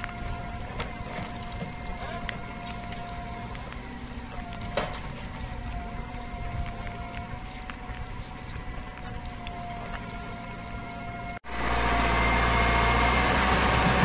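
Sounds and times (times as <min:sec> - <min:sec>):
motor running with high whine: 0:00.0 - 0:14.0.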